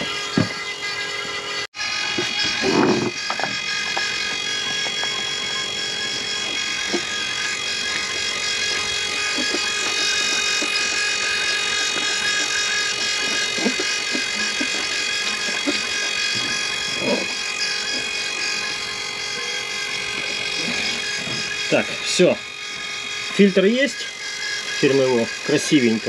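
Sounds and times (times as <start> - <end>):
small electric motor whining: 0.0 - 26.0.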